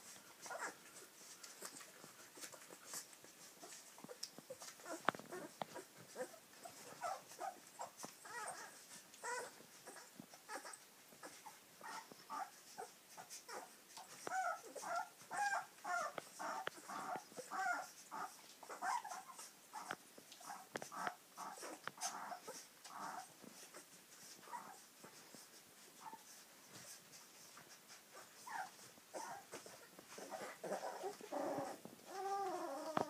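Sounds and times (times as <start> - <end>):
puppies squeaking and whimpering: 0.4 - 33.0.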